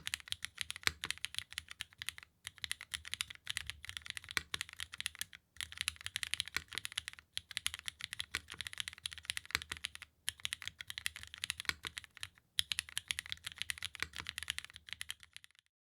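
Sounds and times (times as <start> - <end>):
fast typing on mechanical keyboard: 0.0 - 15.7.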